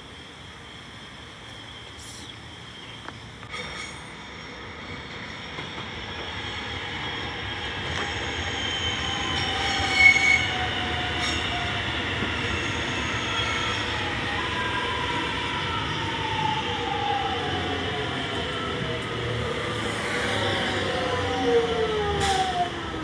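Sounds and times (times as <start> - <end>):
electric train arriving: 0.0 - 23.0.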